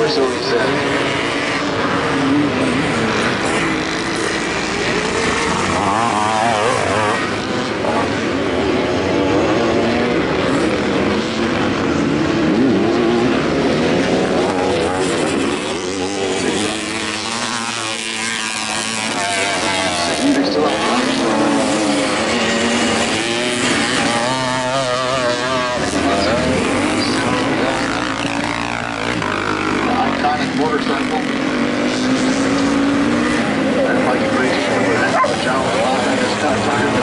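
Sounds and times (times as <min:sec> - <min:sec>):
motorcycle engines racing: 0:00.0 - 0:37.0.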